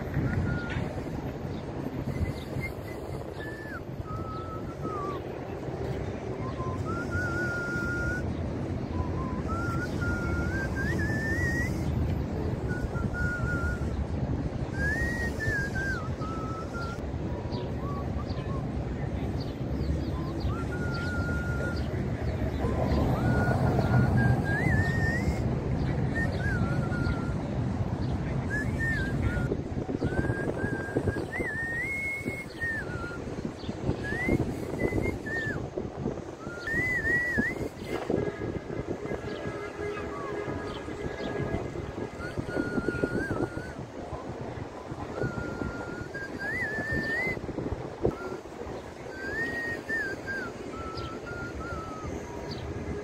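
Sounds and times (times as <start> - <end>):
person whistling a tune: 0.0 - 1.0, 2.0 - 18.9, 20.0 - 35.7, 36.4 - 38.2, 42.0 - 52.8
street noise: 0.0 - 53.0
wind on microphone: 0.0 - 53.0.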